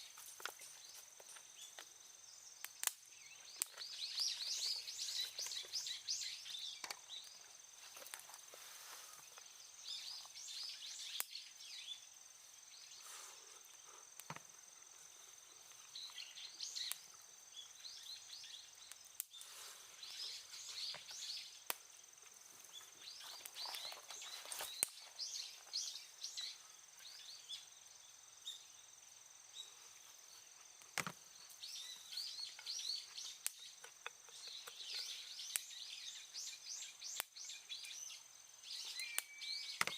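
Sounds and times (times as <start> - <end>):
high insect drone: 0.0 - 39.9
small birds chirping: 0.0 - 39.9.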